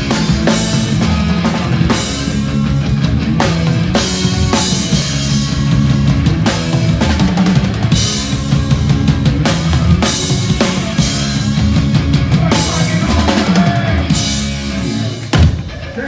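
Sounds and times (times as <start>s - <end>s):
drum kit beating: 0.0s - 16.0s
punk band playing live: 0.0s - 16.0s.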